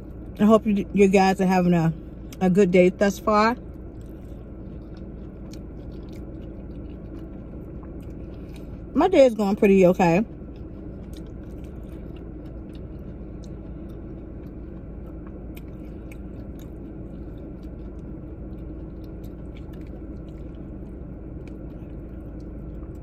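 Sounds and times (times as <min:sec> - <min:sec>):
low hum: 0:00.0 - 0:23.0
chewing soft food: 0:03.6 - 0:23.0.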